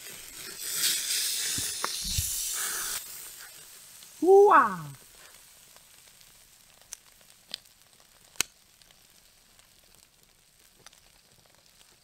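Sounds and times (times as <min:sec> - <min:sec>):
steak sizzling on hot rock: 0:00.0 - 0:12.0.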